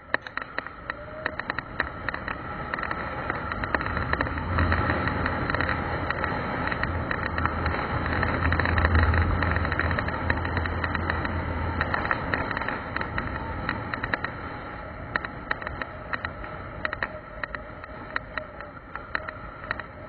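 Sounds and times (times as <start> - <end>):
motorcycle engine droning: 0.0 - 20.0
rattles and clicks: 0.0 - 20.0.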